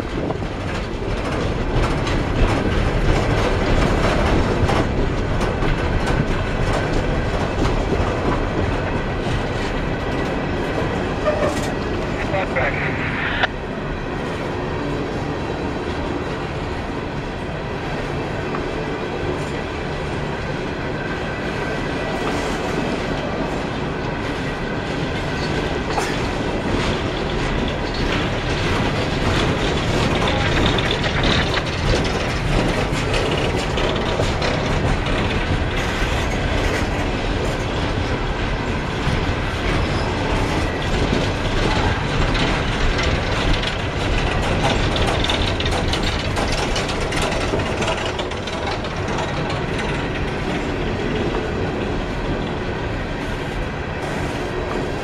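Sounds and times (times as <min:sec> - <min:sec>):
wheels clicking over rail joints: 0:00.0 - 0:12.0, 0:21.4 - 0:55.0
train rumble: 0:00.0 - 0:55.0.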